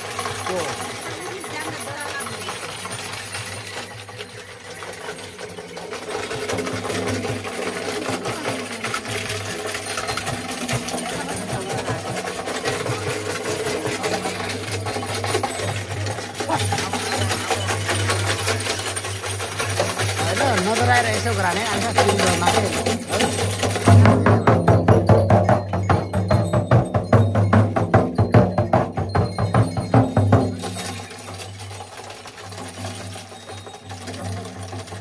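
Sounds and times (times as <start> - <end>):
bells jingling: 0.0 - 35.0
frame drum fast roll: 0.0 - 35.0.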